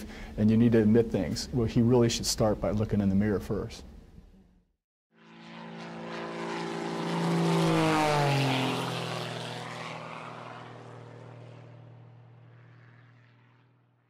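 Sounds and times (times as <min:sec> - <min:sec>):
airplane engine drone: 0:00.0 - 0:03.2, 0:05.1 - 0:14.0.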